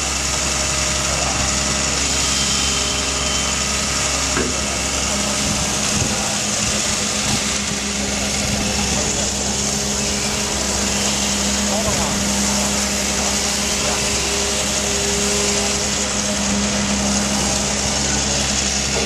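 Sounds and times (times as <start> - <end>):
diesel engine running: 0.0 - 19.0
steady hum: 1.1 - 19.0.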